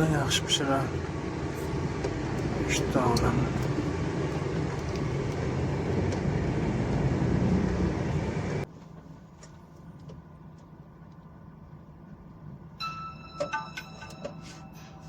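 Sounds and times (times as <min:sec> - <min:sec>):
vehicle road and engine noise: 0:00.0 - 0:12.8.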